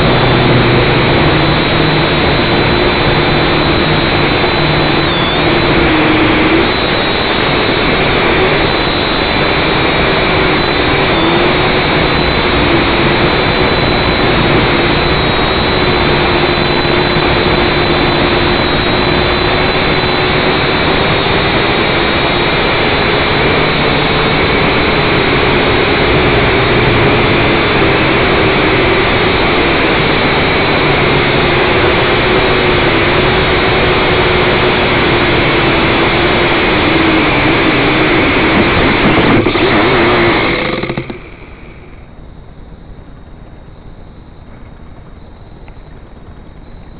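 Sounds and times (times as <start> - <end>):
drone motors whining: 0.0 - 42.2.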